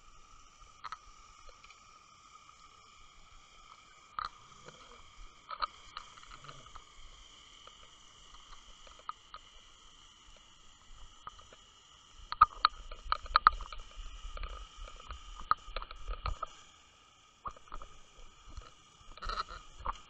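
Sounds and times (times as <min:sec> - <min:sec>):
steady high whine: 0:00.0 - 0:20.0.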